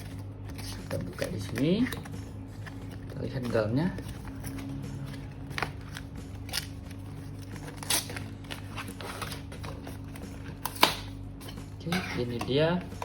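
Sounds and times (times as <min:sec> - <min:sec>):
cardboard and packaging rustling: 0:00.0 - 0:10.8.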